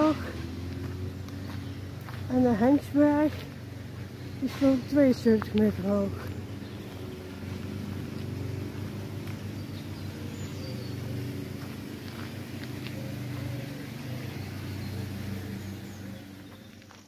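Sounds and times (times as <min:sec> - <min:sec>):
low motor drone: 0:00.0 - 0:17.0.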